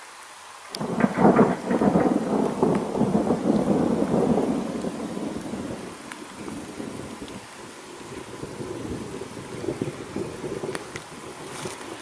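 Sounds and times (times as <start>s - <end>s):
thunder crack and rumble: 0.8s - 7.5s, 8.1s - 11.4s.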